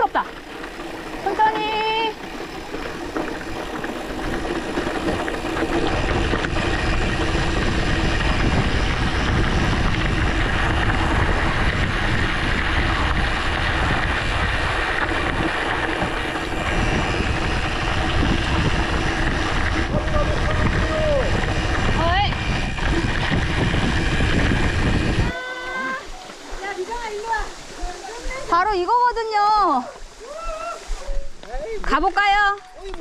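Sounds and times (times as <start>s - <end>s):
bike tyres rolling on dirt trail: 0.0s - 33.0s
wind buffeting microphone: 0.0s - 33.0s.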